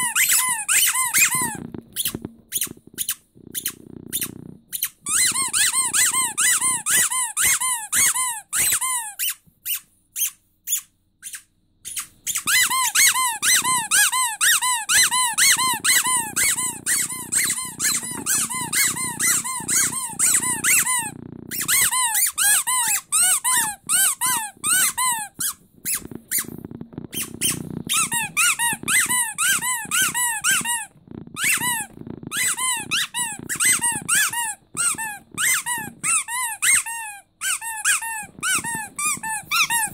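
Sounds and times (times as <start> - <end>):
rubber squeaky toy squeaking: 0.0 - 39.9.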